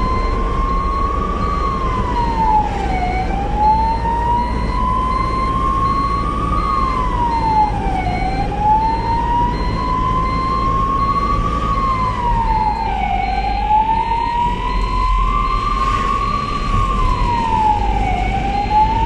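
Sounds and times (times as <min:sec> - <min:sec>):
ambulance siren wailing: 0:00.0 - 0:19.0
low rumble of moving vehicle: 0:00.0 - 0:19.0.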